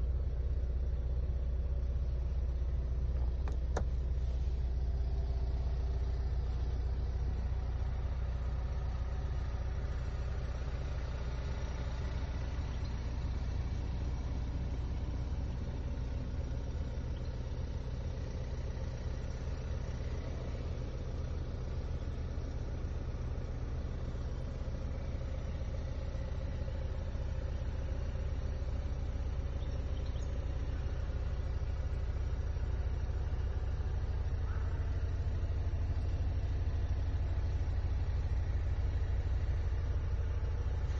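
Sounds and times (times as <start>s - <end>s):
diesel engine rumble from cabin: 0.0s - 40.9s.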